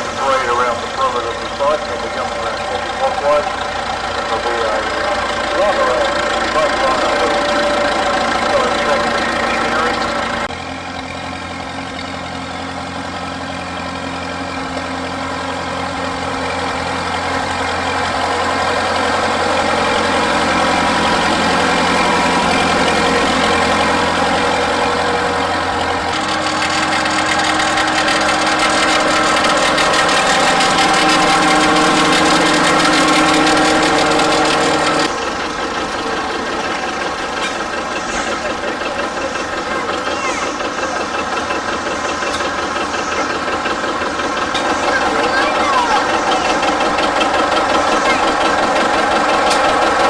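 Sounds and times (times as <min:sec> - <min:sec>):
tractor engines running: 0:00.0 - 0:50.0.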